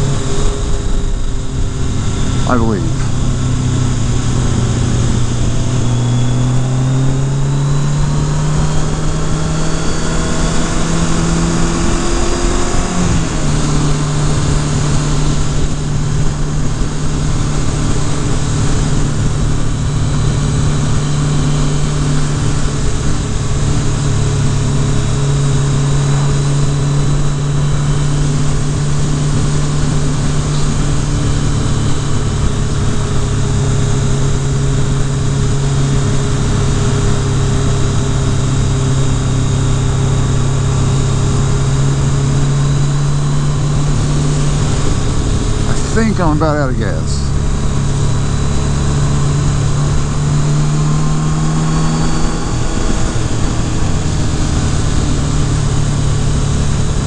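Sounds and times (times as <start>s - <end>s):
motorcycle engine under way: 0.0s - 45.7s, 47.3s - 57.0s.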